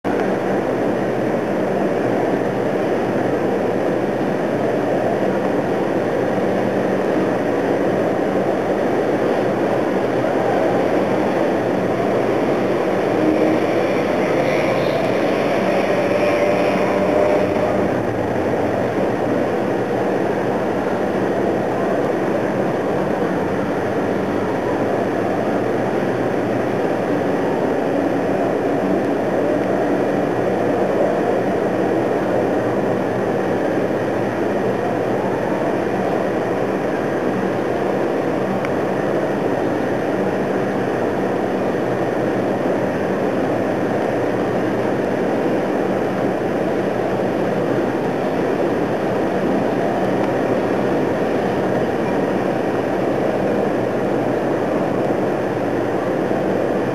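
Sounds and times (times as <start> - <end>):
faint whine: 0.1 - 56.9
mechanical engine drone: 0.1 - 56.9.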